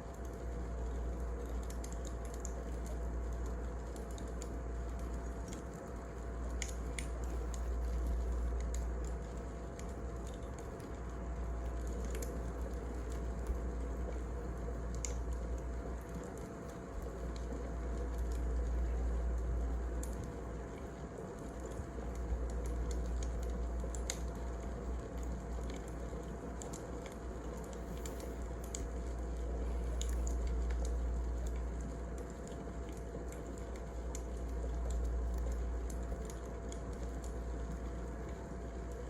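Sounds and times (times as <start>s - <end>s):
low fire rumble: 0.0s - 39.0s
wood fire crackling and popping: 0.1s - 39.0s.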